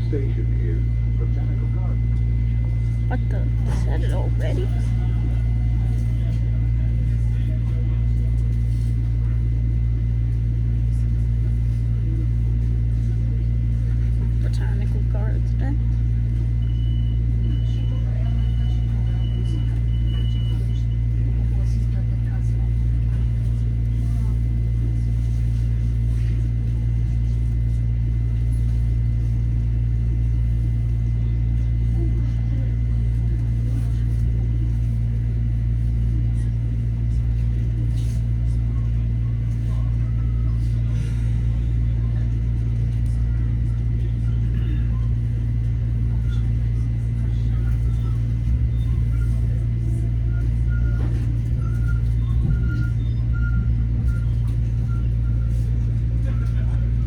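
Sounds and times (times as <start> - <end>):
train hum and rumble: 0.0 - 57.0.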